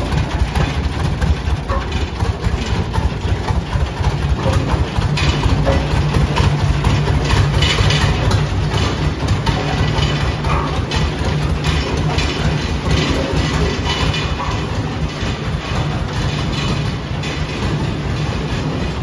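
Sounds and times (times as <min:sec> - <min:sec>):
tractor engine running slowly: 0:00.0 - 0:19.0.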